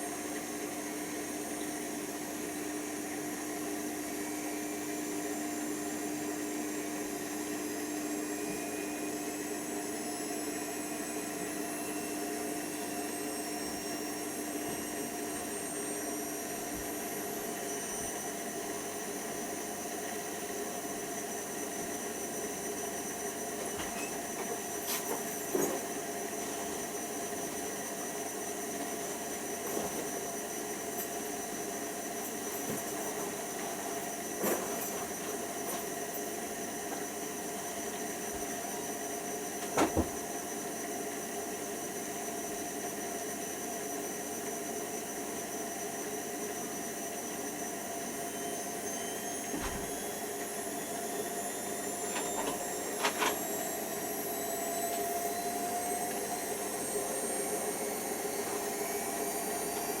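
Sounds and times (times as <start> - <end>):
washer dryer motor whine: 0.0 - 60.0.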